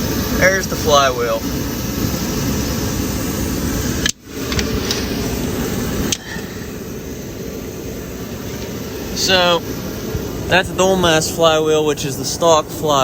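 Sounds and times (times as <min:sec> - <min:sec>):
heater rushing noise: 0:00.0 - 0:13.0.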